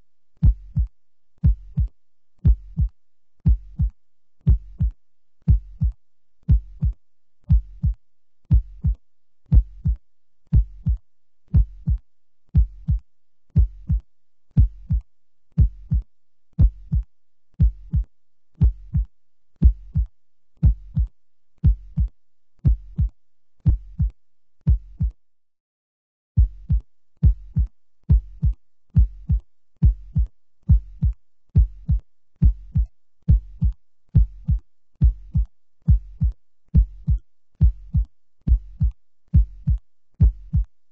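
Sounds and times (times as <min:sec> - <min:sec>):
heartbeat double thumps: 0:00.4 - 0:12.0, 0:12.6 - 0:13.0, 0:13.6 - 0:14.0, 0:14.6 - 0:15.0, 0:15.6 - 0:24.1, 0:24.7 - 0:25.1, 0:26.4 - 0:40.8.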